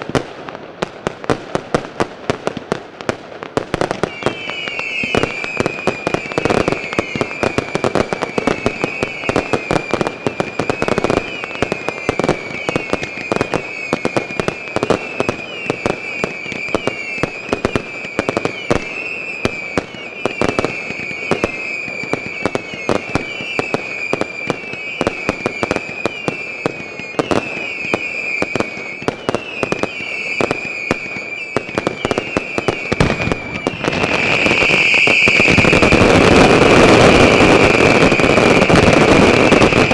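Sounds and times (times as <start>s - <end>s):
fireworks bangs and crackles: 0.0s - 39.9s
high wavering whistle: 4.0s - 39.8s.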